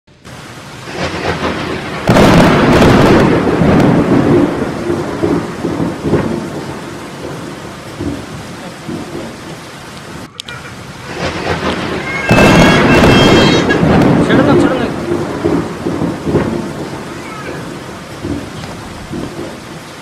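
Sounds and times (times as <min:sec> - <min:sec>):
steady rain: 0:00.1 - 0:20.0
thunder rumbling: 0:00.2 - 0:20.0.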